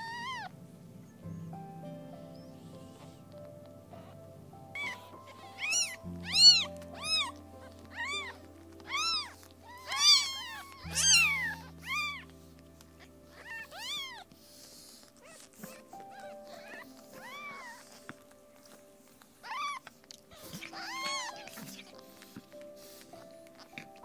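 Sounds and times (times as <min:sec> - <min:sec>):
kittens mewing: 0:00.0 - 0:00.6, 0:02.3 - 0:24.0
background music: 0:00.0 - 0:24.0.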